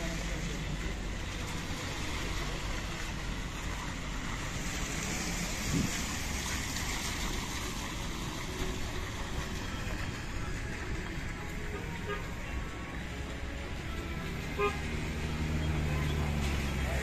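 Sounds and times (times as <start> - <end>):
car tyres hissing on wet road: 0.0 - 17.0.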